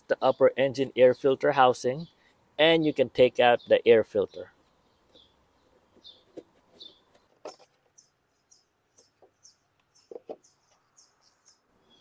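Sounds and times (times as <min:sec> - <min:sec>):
small bird chirping: 0:01.9 - 0:12.0.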